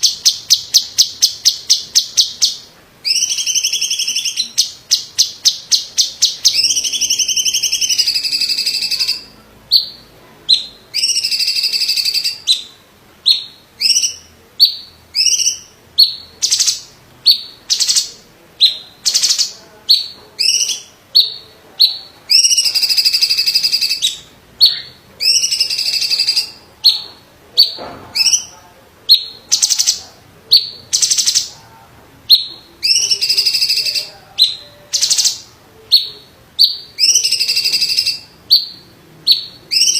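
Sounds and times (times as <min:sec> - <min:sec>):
leafbird singing loudly: 0:00.0 - 0:31.6, 0:32.3 - 0:39.9.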